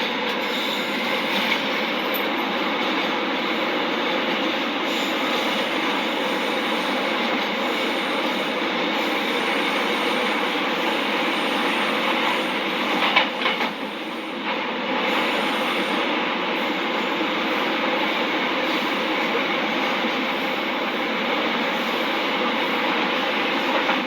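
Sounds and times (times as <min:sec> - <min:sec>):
electric train wheels on rails: 0:00.0 - 0:24.0.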